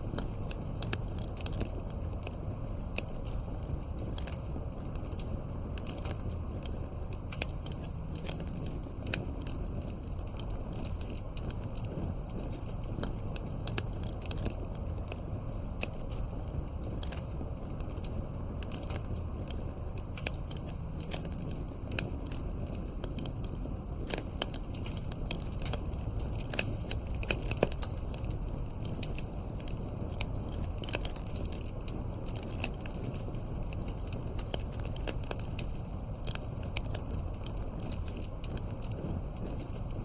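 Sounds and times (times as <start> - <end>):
low rush of flame: 0.0 - 40.0
wood crackling and popping: 0.0 - 40.0.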